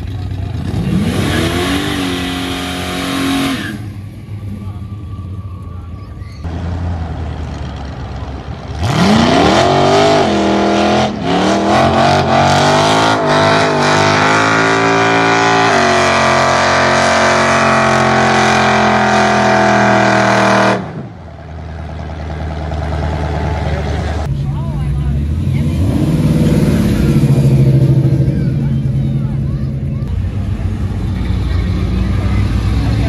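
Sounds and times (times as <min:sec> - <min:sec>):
car engine revving: 0:00.0 - 0:04.0, 0:06.5 - 0:33.0.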